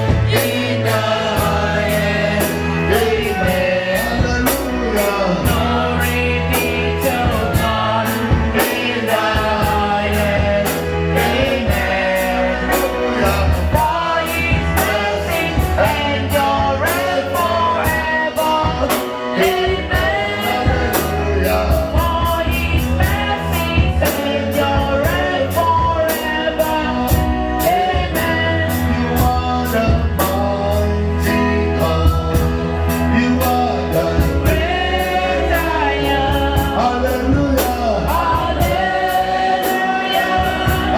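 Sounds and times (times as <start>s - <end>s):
band with steady beat: 0.0s - 40.9s
gospel singing: 0.0s - 40.9s.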